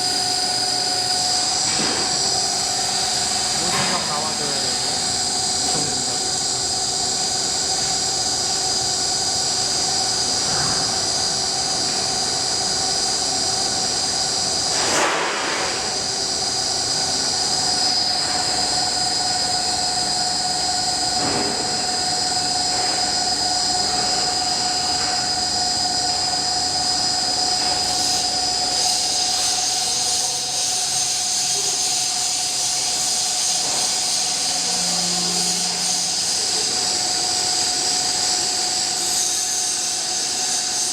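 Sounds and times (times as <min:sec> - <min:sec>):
milling machine whining: 0:00.0 - 0:14.9, 0:15.5 - 0:40.9.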